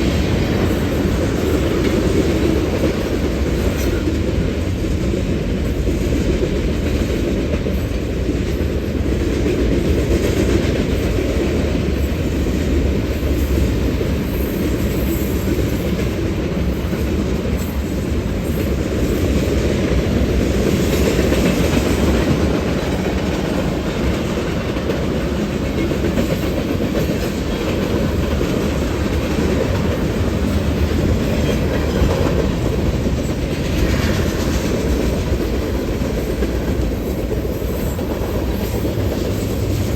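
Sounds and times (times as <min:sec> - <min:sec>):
train wheels running on rails: 0:00.0 - 0:39.9.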